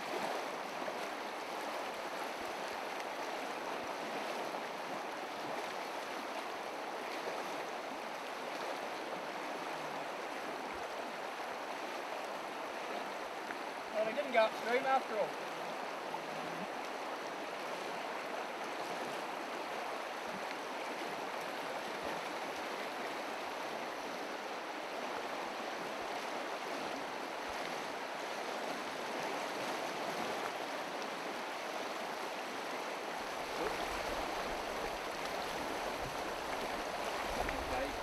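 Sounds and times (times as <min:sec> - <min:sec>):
river rushing over stones: 0:00.0 - 0:38.0.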